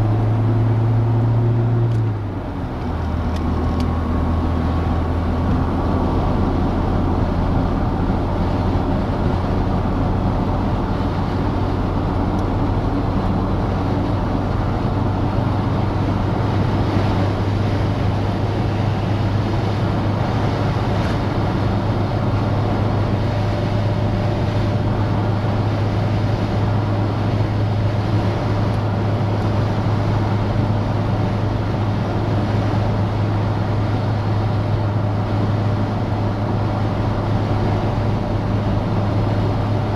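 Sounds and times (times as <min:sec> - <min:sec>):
low engine drone: 0:00.0 - 0:39.9
road and wind noise: 0:00.0 - 0:39.9.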